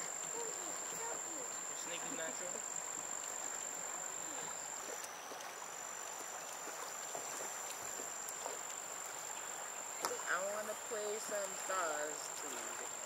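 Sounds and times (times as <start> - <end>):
crickets trilling: 0.0 - 13.0
light hiss: 0.0 - 13.0.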